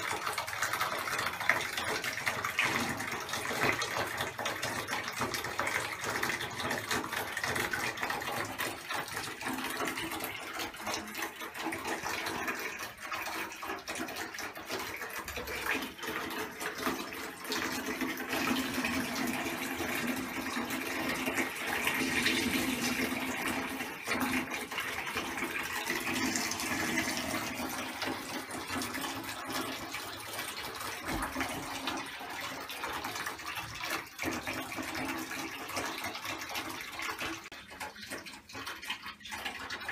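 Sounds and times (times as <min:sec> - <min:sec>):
water running into bathtub: 0:00.0 - 0:39.9.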